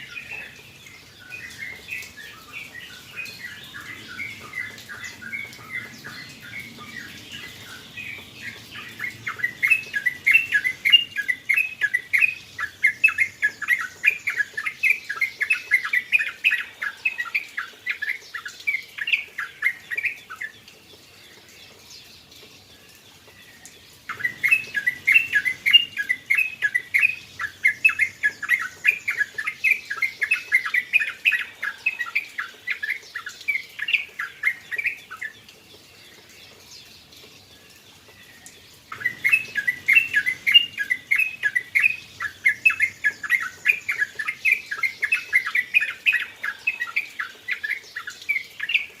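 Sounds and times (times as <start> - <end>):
bird chirping song: 0.0 - 49.0.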